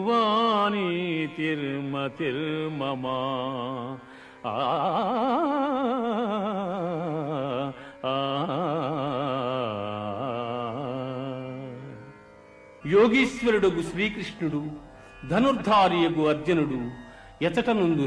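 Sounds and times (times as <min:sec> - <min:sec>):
man singing devotional melody: 0:00.0 - 0:18.0.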